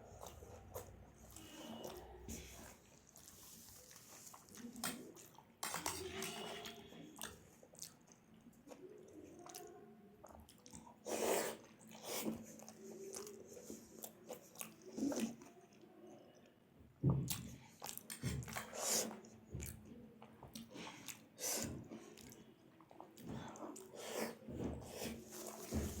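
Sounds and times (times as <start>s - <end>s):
person chewing food: 0.0s - 15.8s, 17.1s - 26.0s.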